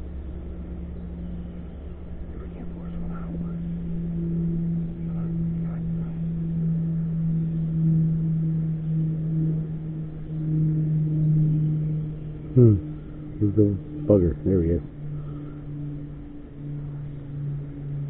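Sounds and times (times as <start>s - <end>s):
engine hum: 0.0s - 18.0s.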